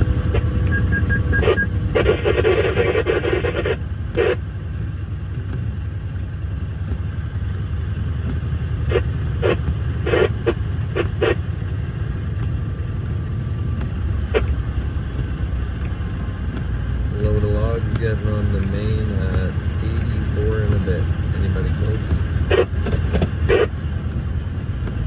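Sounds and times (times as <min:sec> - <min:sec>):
truck engine and road rumble: 0:00.0 - 0:25.0.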